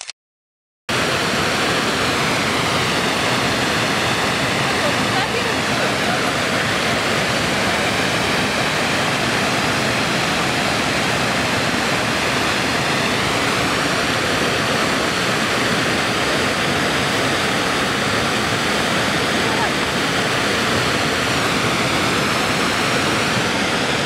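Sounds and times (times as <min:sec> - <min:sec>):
river pouring over waterfall: 0:00.9 - 0:24.0.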